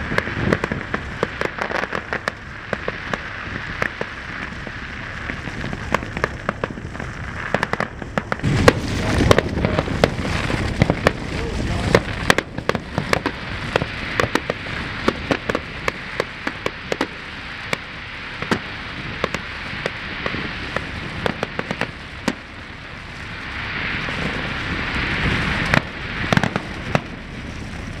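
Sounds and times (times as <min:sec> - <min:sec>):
fireworks bangs: 0:00.0 - 0:28.0
fireworks fizzing crackle: 0:00.0 - 0:28.0.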